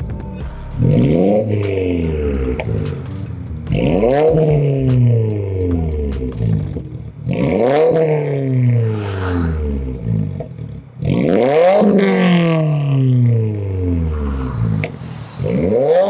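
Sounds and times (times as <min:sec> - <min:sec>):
car engine revving: 0:00.5 - 0:16.0
exhaust crackle: 0:00.5 - 0:16.0.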